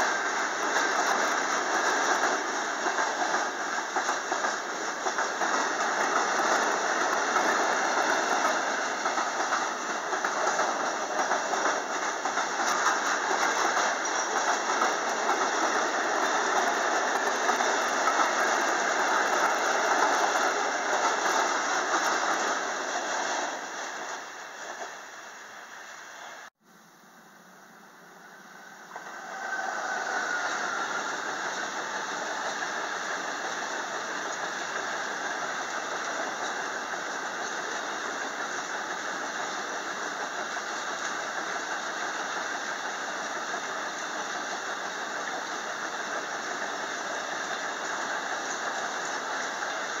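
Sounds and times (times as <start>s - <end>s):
electric train passing at speed: 0.0s - 26.5s, 27.1s - 50.0s.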